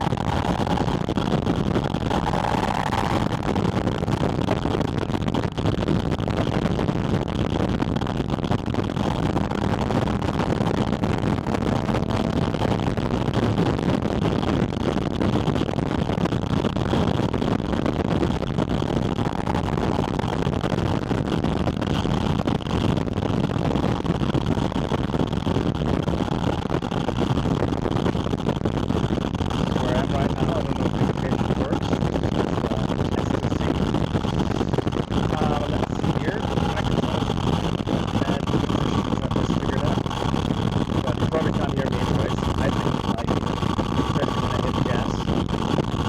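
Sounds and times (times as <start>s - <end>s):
car engine running: 0.0s - 5.2s, 8.4s - 25.4s, 29.2s - 46.0s
wind rushing over microphone: 0.0s - 46.0s.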